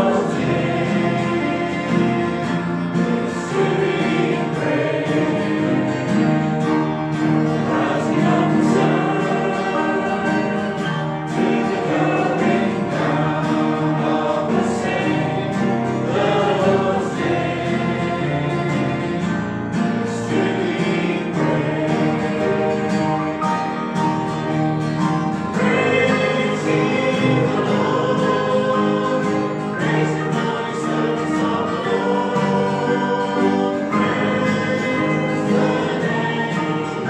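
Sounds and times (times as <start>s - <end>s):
congregation singing a hymn: 0.0s - 37.0s
guitar: 0.0s - 37.0s.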